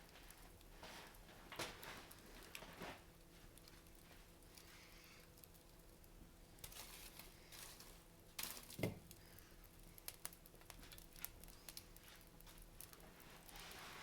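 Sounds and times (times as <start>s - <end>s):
wood fire crackling faintly: 0.0s - 14.0s.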